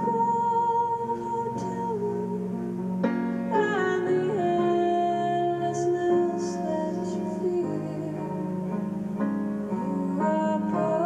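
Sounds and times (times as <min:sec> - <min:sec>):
person singing slow song: 0:00.0 - 0:09.0, 0:09.7 - 0:11.0
soft instrumental accompaniment: 0:00.0 - 0:11.0.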